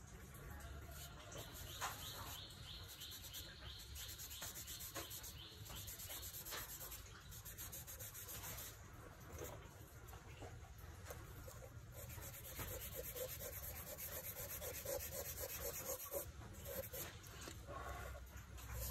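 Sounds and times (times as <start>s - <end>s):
charcoal scratching on paper: 1.0s - 8.8s, 11.4s - 18.9s.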